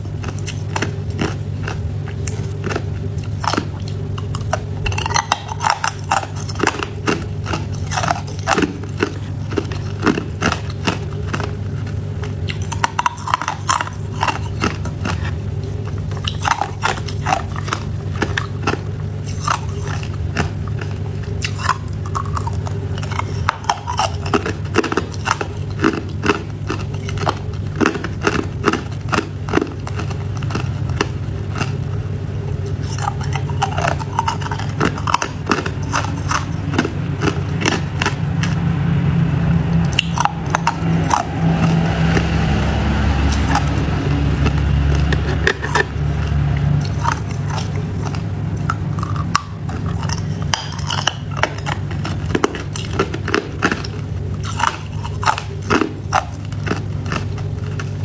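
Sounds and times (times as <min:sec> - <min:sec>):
ice crunching between teeth: 0:00.0 - 0:38.7, 0:39.8 - 0:58.0.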